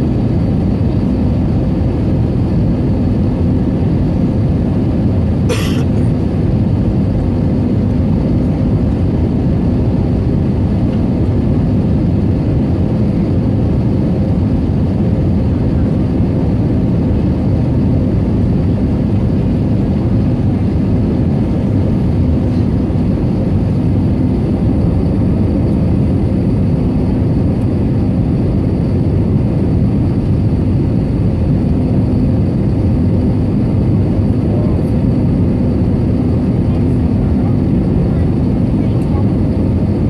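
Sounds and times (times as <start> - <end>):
aircraft engine and airflow roar: 0.0 - 40.0.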